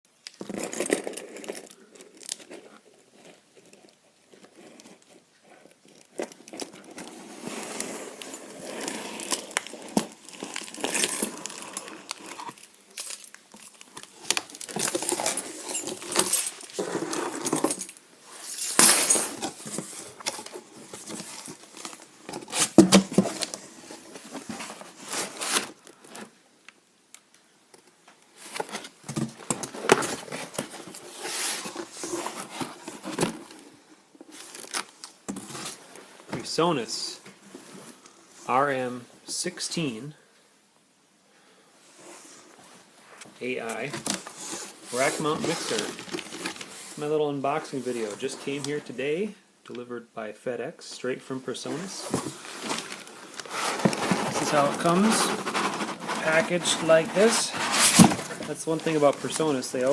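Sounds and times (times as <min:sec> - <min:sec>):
handling rustling and rattling: 0:00.1 - 0:26.4, 0:27.7 - 0:36.6, 0:41.9 - 0:47.0, 0:51.7 - 0:59.9.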